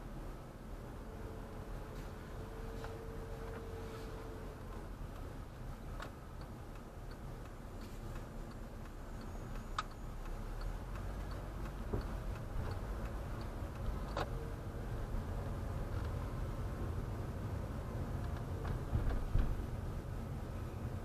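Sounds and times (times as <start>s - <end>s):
low hum of engine and road: 0.0s - 21.0s
turn signal ticking: 2.4s - 21.0s.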